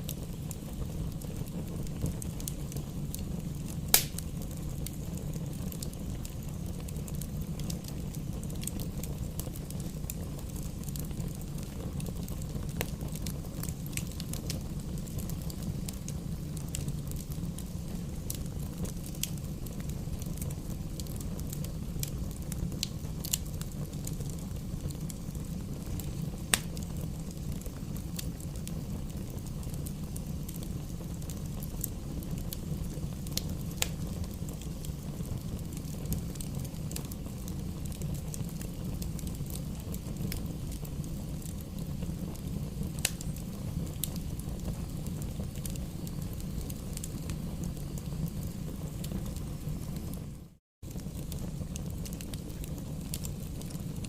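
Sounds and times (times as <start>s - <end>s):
burning wood crackling and popping: 0.0s - 54.0s
campfire flames rumbling: 0.0s - 54.0s.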